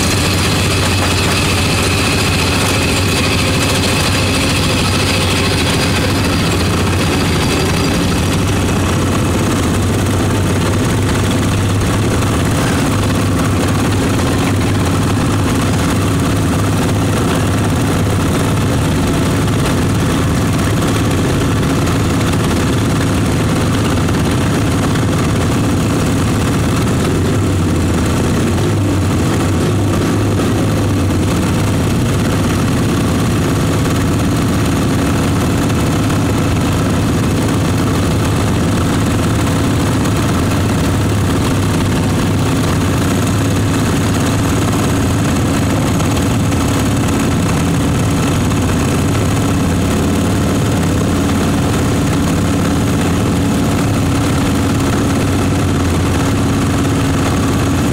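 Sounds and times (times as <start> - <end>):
lawn mower engine idling: 0.0 - 57.9.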